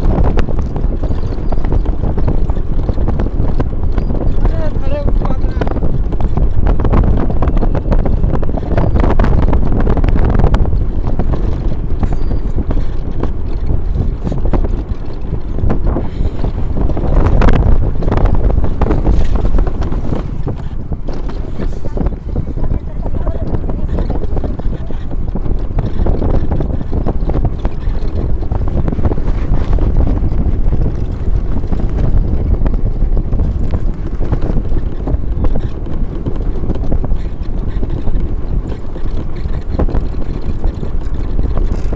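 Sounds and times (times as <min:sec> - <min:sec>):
knocks and rattles: 0:00.0 - 0:41.9
wind buffeting microphone: 0:00.0 - 0:41.9.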